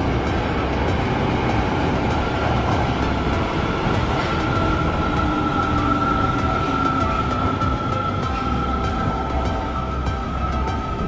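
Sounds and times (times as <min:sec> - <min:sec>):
subway train rumble: 0:00.0 - 0:11.0
high-pitched squeal: 0:00.1 - 0:11.0.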